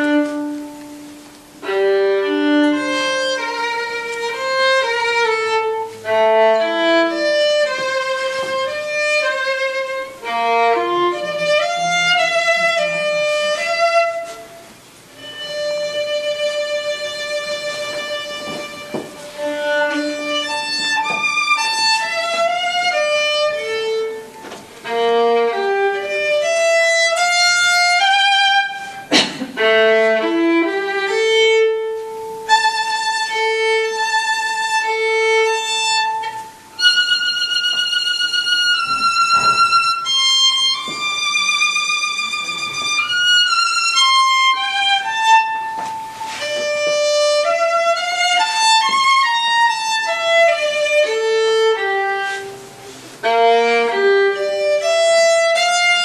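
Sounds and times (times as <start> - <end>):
violin playing: 0.0 - 56.0.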